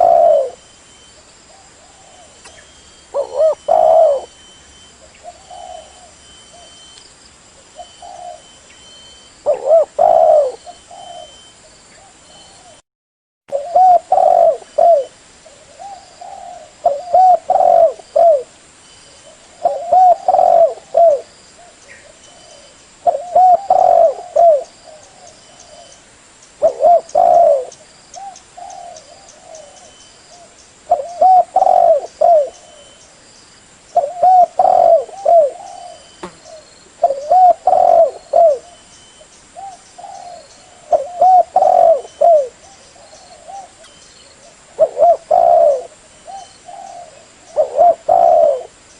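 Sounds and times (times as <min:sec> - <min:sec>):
dove cooing: 0:00.0 - 0:00.6, 0:01.5 - 0:04.4, 0:05.0 - 0:06.8, 0:07.8 - 0:08.6, 0:09.4 - 0:12.8, 0:13.5 - 0:18.5, 0:19.2 - 0:26.0, 0:26.6 - 0:33.0, 0:34.0 - 0:38.9, 0:39.6 - 0:48.8.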